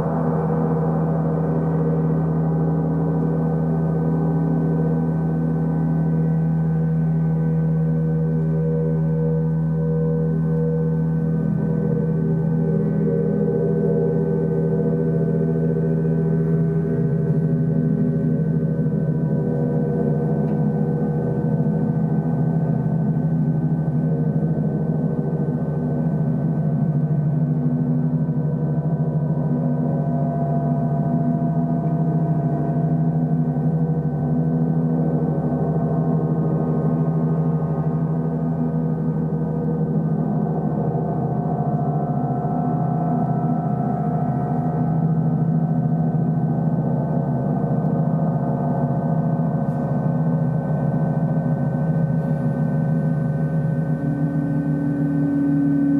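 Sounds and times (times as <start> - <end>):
deep gong drone: 0.0 - 55.9.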